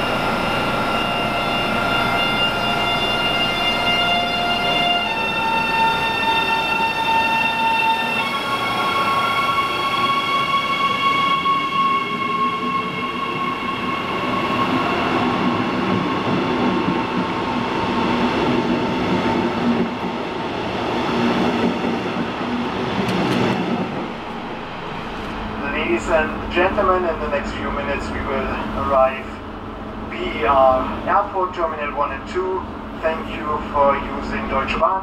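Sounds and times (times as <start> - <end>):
electric locomotive converter whine: 0.0 - 35.0
train wheels rumbling on rail: 0.0 - 35.0.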